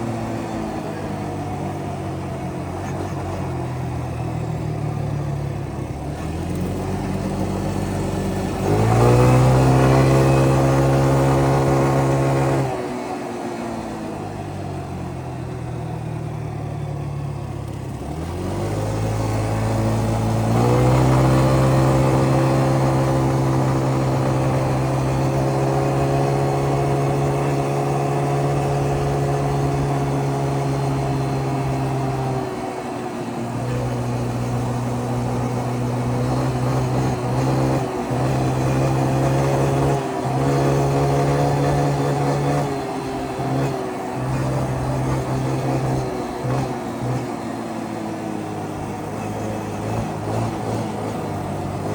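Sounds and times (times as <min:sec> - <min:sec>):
small atv engine: 0:00.0 - 0:51.9.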